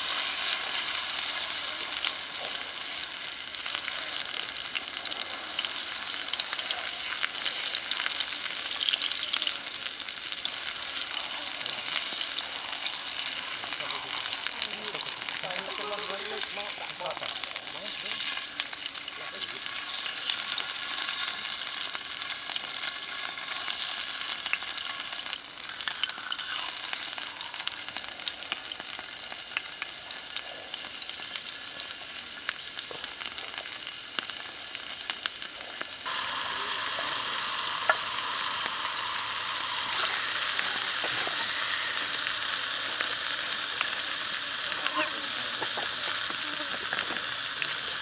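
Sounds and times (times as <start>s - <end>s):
meat sizzling in oil: 0.0s - 48.0s.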